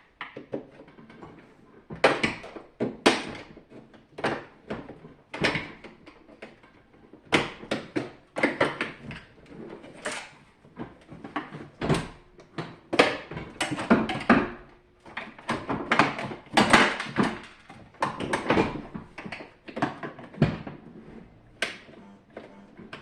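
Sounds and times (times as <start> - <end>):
knocks clicks and scrapes of parts: 0.1 - 23.0.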